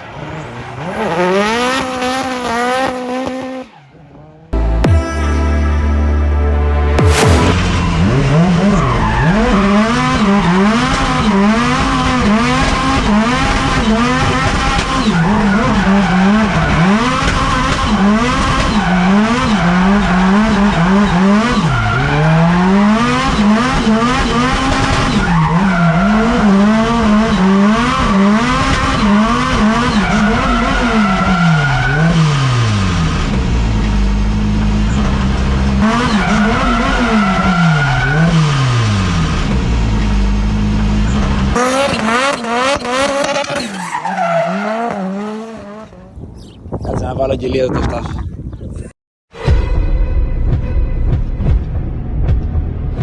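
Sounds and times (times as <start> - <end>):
car engine revving: 0.0 - 46.2.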